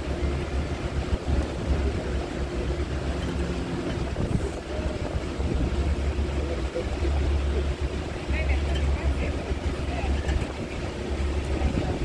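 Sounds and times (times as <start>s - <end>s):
boat engine drone: 0.0s - 12.0s
wind buffeting microphone: 0.0s - 12.0s.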